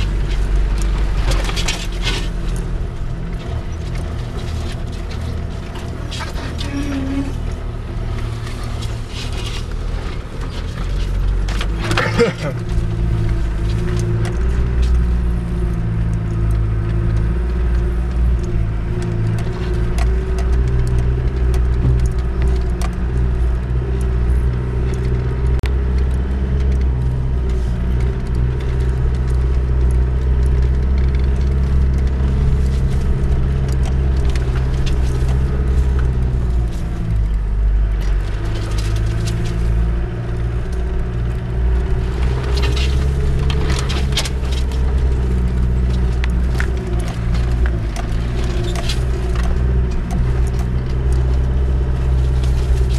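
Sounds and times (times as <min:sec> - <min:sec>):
car body rattling and clicking: 0:00.0 - 0:52.9
diesel engine running: 0:00.0 - 0:52.9.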